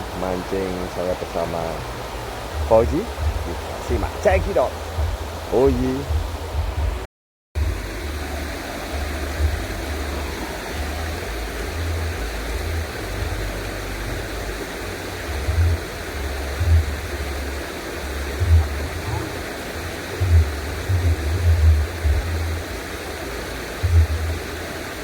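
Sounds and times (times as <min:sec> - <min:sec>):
wind buffeting microphone: 0:00.0 - 0:07.0, 0:07.6 - 0:22.8
rushing noise like flowing water: 0:00.0 - 0:25.0.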